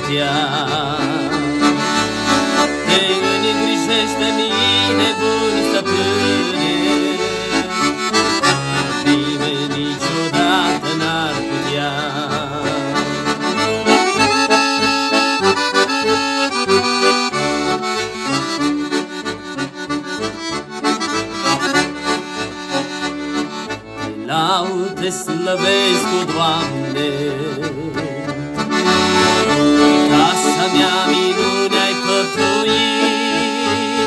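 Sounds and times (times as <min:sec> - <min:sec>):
instrumental worship music: 0:00.0 - 0:34.0.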